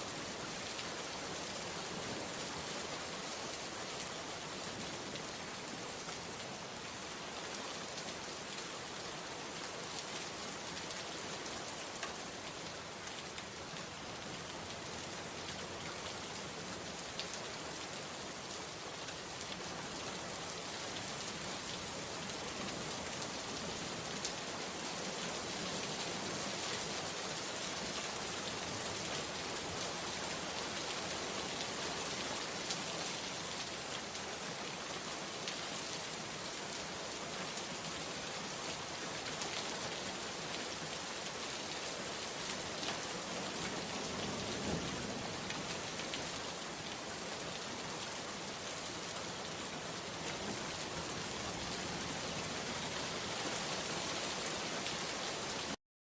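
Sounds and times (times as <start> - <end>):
steady rain: 0.0 - 55.8.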